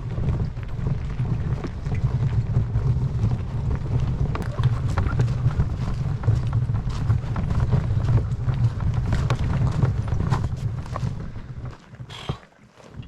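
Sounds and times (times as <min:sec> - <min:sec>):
crunching footsteps: 0:00.0 - 0:13.0
wheels rumbling on road: 0:00.0 - 0:13.0.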